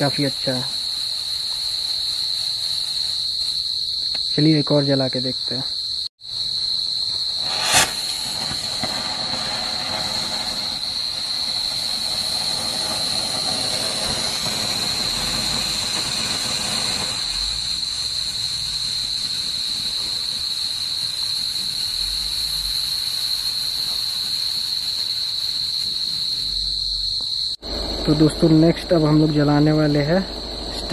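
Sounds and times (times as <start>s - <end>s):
firework fountain crack: 0.0s - 5.3s, 7.0s - 26.6s, 27.4s - 30.9s
crickets chirping: 0.0s - 30.9s
firework fountain hissing: 0.0s - 30.9s.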